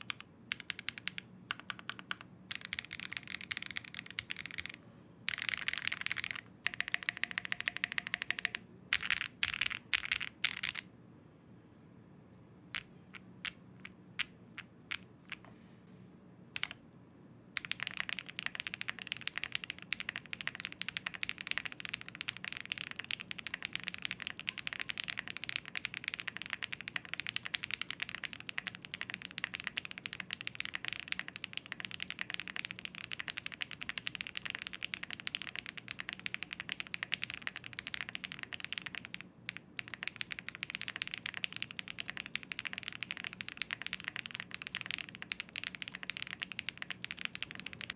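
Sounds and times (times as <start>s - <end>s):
mechanical keyboard typing: 0.0s - 10.8s, 16.6s - 16.8s, 17.6s - 47.9s.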